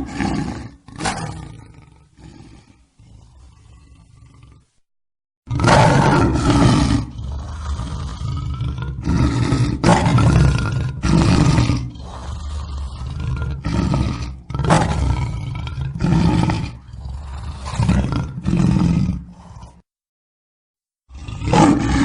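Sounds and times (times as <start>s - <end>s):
lion roaring: 0.0s - 4.8s, 5.5s - 19.8s, 21.1s - 22.0s.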